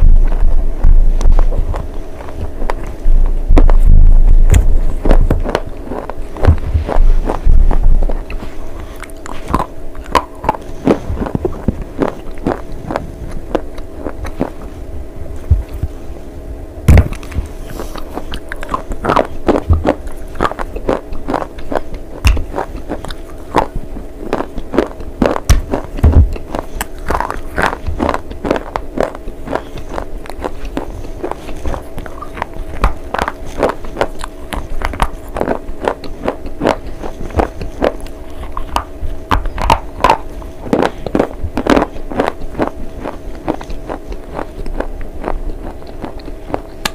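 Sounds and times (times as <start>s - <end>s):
person chewing crunchy food: 0.0s - 16.2s, 16.9s - 46.9s
faint steady hum: 0.0s - 46.9s.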